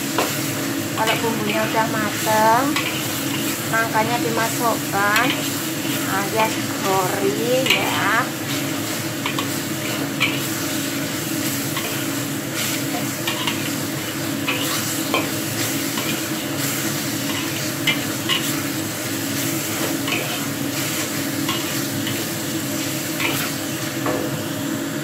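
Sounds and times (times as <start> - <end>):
spice paste sizzling in oil: 0.0 - 25.0
metal spatula scraping wok: 1.0 - 3.6, 4.4 - 23.8.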